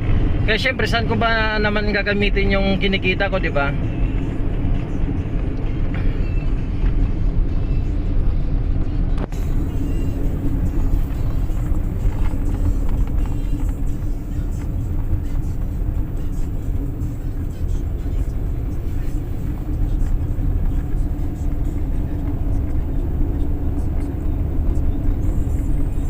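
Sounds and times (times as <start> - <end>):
car road and engine drone: 0.0 - 26.0.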